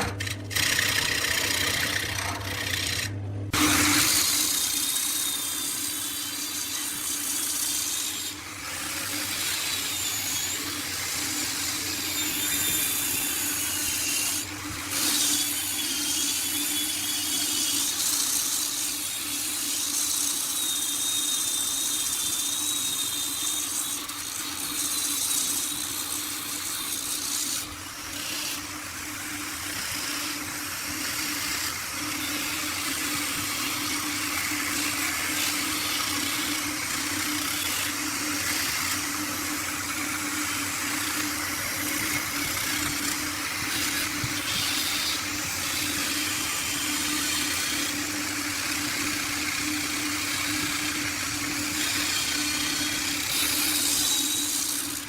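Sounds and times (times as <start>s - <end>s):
tool cutting spinning wood: 0.0s - 55.0s
wood lathe motor hum: 0.0s - 55.0s.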